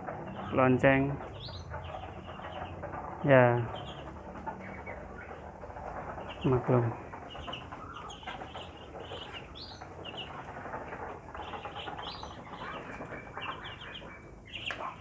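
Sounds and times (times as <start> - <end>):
ducklings peeping: 0.0 - 15.0
rustle of birds feeding: 0.0 - 15.0.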